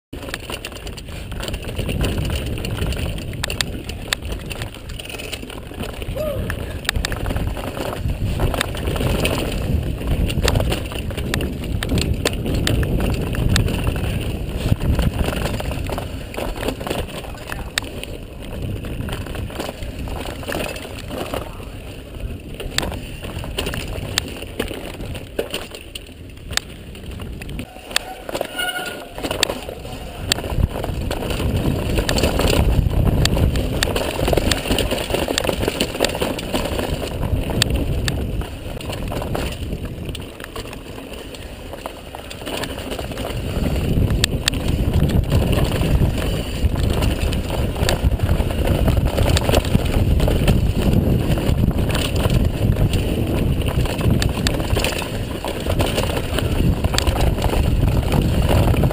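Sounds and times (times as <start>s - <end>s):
bike clicks and rattles: 0.1s - 58.9s
wind and tyres rumbling: 0.1s - 58.9s.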